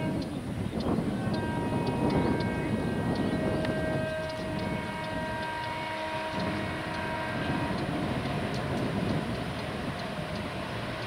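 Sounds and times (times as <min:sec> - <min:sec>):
electric train rumble: 0:00.0 - 0:11.0
high-pitched train whine: 0:00.0 - 0:11.0.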